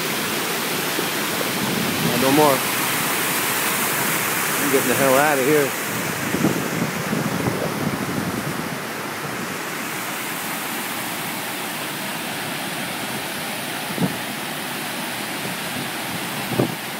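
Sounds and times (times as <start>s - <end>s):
river rushing over falls: 0.0s - 16.9s.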